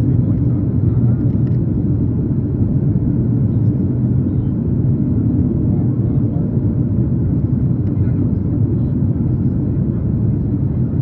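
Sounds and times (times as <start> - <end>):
jet cabin rumble: 0.0 - 11.0.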